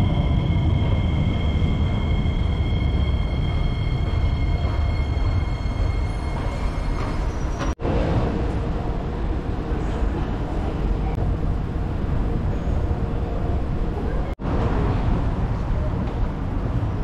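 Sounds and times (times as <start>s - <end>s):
train rumbling with high whine: 0.0s - 17.0s.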